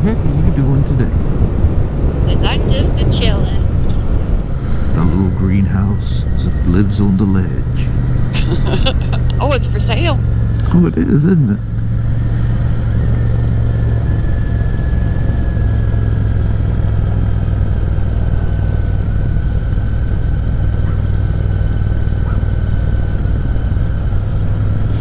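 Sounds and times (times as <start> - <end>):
motorcycle engine cruising: 0.0 - 25.0
wind noise: 0.0 - 25.0.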